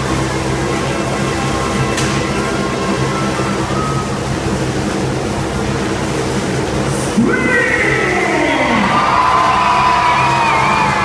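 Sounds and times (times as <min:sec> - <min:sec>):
loud music: 0:00.0 - 0:11.0
motorcycle engines revving high: 0:00.0 - 0:11.0.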